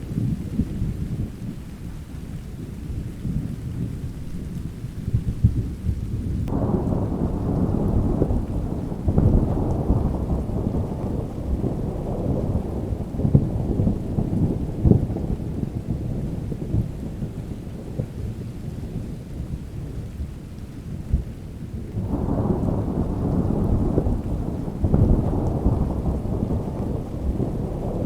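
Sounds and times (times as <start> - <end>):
rain: 0.0 - 28.0
thunder rumbling: 2.6 - 28.0.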